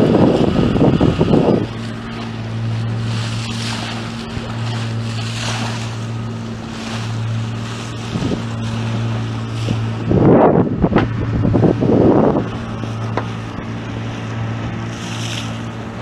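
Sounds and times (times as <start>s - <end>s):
wind hissing on microphone: 0.0s - 6.4s, 7.1s - 15.7s
boat motor humming: 0.0s - 16.0s
water rushing along hull: 0.0s - 16.0s.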